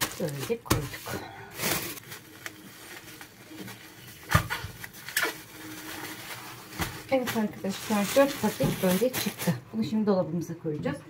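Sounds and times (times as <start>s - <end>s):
plastic bags crinkling: 0.0s - 9.8s.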